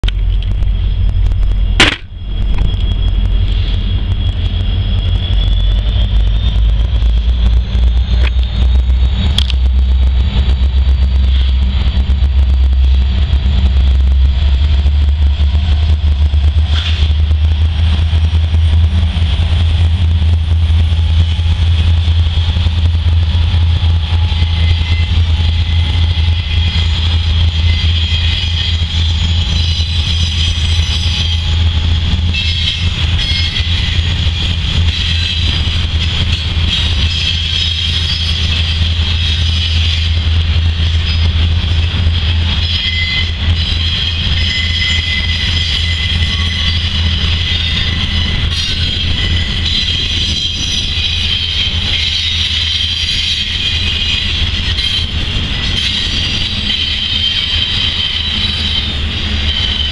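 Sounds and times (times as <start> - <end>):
diesel locomotive engine rumble: 0.0 - 59.9
train wheel and rail noise: 0.0 - 59.9.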